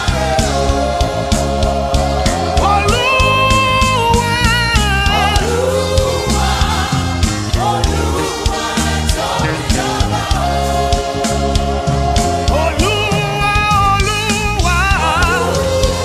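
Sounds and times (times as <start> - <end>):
gospel singing: 0.0 - 16.0
regular drum beat: 0.0 - 16.0
steady bass: 0.0 - 16.0.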